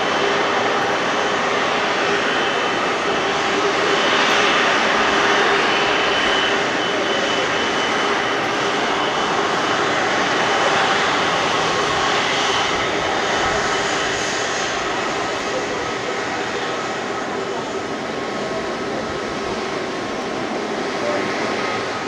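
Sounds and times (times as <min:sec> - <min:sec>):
faint jet engine whine: 0:00.0 - 0:22.0
jet engines rushing: 0:00.0 - 0:22.0.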